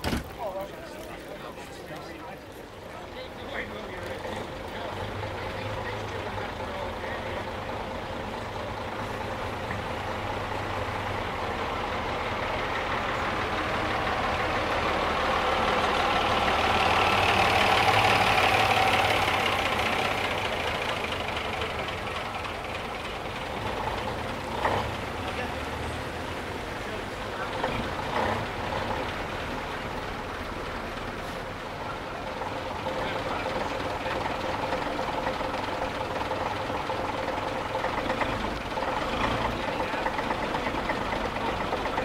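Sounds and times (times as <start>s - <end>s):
bus engine passing by: 0.1s - 42.0s.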